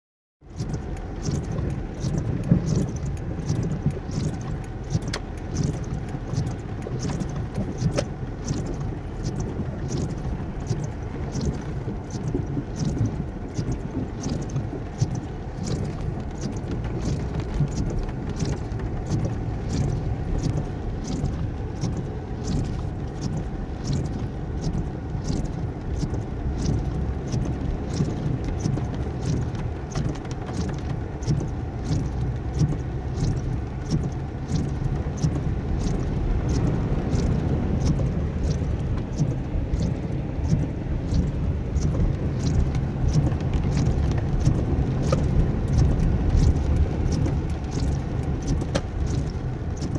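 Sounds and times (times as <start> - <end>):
car driving through water: 0.4 - 49.9
light ticking: 0.5 - 49.9.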